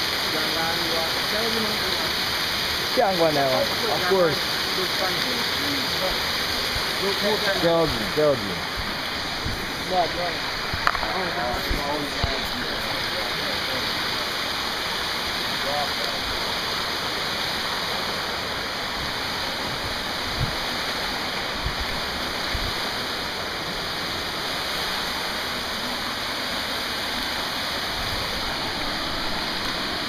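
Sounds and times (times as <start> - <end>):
waterfall pouring into pool: 0.0 - 30.0.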